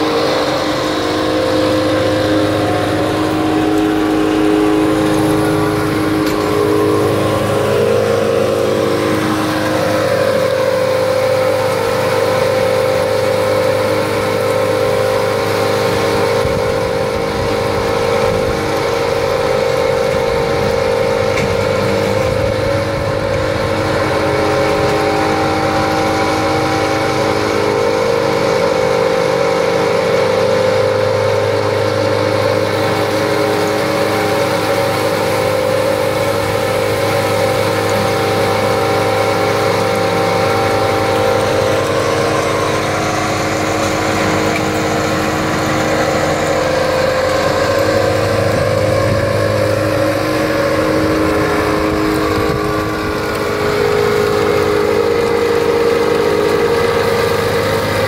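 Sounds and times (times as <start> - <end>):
excavator diesel engine running: 0.0 - 58.0
vibrating soil screener engine: 0.0 - 58.0.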